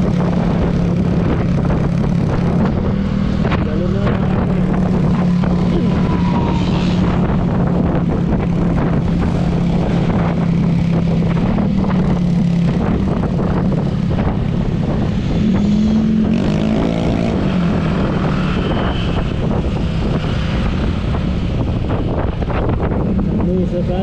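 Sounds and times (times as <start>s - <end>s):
road noise: 0.0s - 24.0s
vehicle engine running: 0.0s - 24.0s
wind noise: 0.0s - 24.0s.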